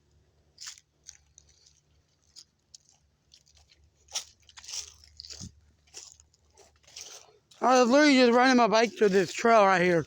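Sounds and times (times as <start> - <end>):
footsteps crunching on dirt: 0.6 - 10.0.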